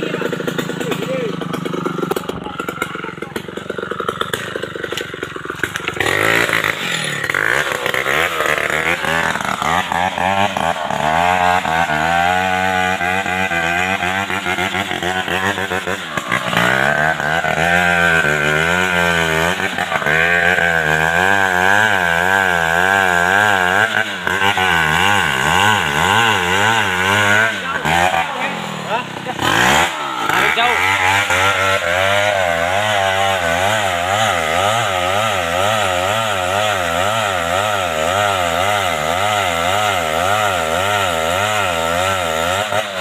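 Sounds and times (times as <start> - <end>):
chainsaw cutting wood: 0.0 - 43.0.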